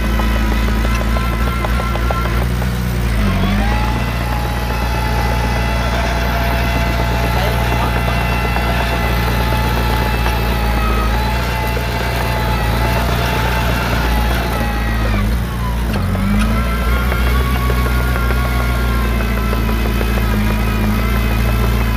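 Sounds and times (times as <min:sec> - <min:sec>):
heavy diesel engine running: 0:00.0 - 0:21.9.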